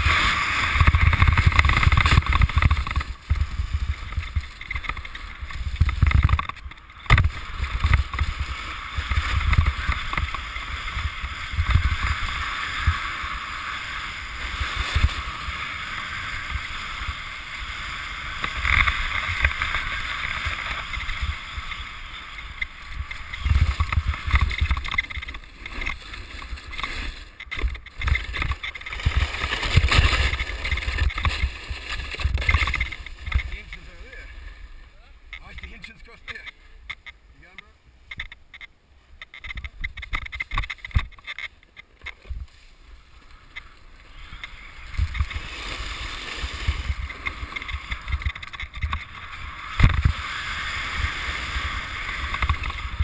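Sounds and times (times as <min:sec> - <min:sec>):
snowboard sliding on snow: 0:00.0 - 0:35.1, 0:42.2 - 0:53.0.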